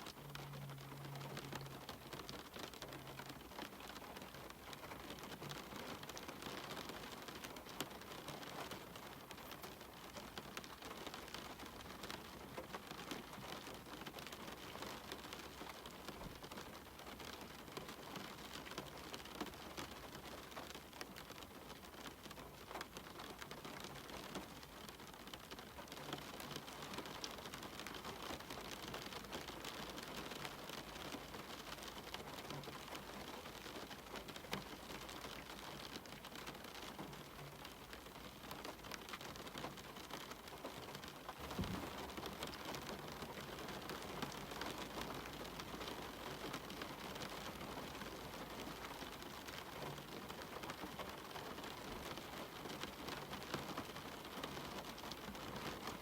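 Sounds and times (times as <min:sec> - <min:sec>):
rain on a window: 0:00.0 - 0:56.0.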